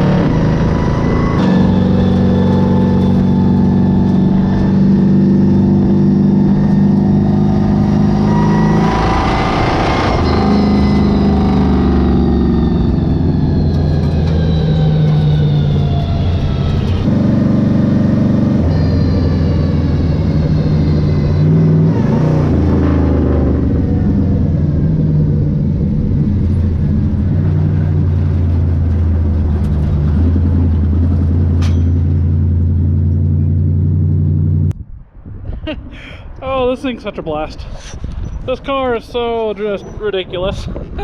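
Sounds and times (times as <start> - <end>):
loud car engine running: 0.0 - 34.8.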